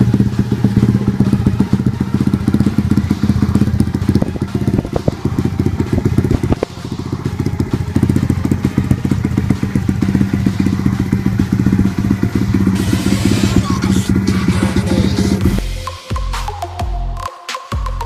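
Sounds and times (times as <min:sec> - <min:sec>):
dirt bike engine running: 0:00.0 - 0:15.6.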